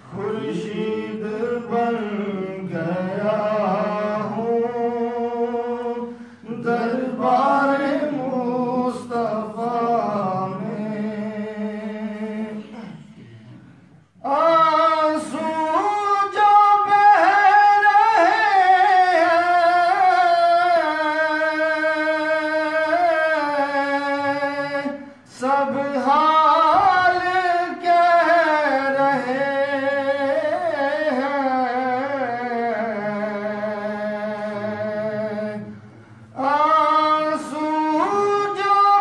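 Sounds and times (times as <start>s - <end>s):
man singing into a microphone: 0.0s - 13.1s, 14.2s - 39.0s.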